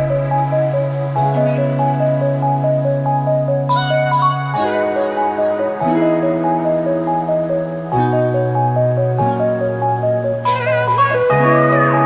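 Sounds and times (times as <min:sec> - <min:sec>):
gentle keyboard tune: 0:00.0 - 0:12.0.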